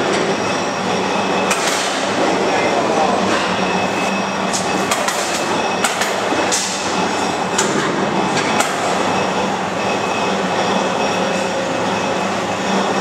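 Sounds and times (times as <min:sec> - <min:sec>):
industrial din with low hum: 0:00.0 - 0:13.0.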